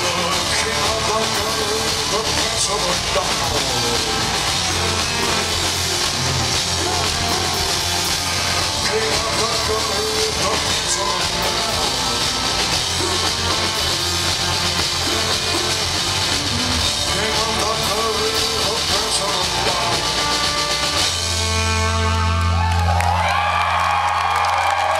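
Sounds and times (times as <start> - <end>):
rock band playing: 0.0 - 24.4.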